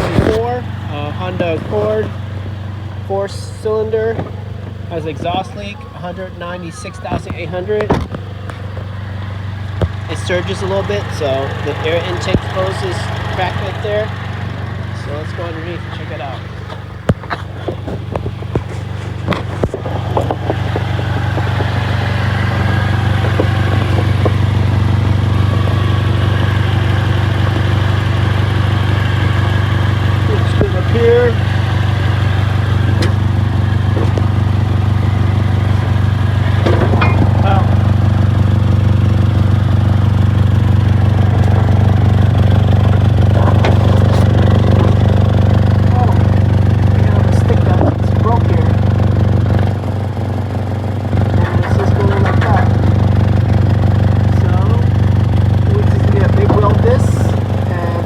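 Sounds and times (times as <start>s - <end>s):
car engine idling: 0.0s - 58.0s
exhaust leak: 0.0s - 58.0s
sharp knocks and clatters: 7.2s - 58.0s.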